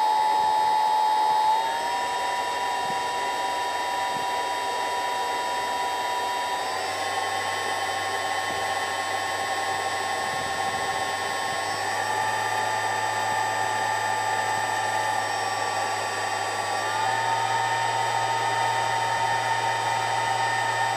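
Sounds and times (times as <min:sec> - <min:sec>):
spindle motor whine: 0:00.0 - 0:20.9.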